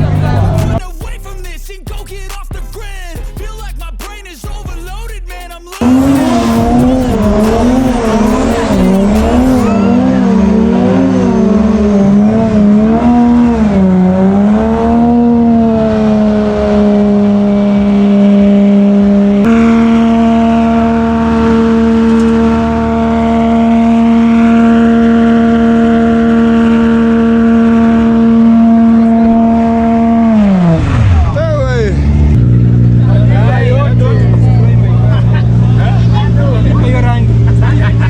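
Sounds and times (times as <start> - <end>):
car engine revving: 0.0 - 2.2, 4.9 - 38.0.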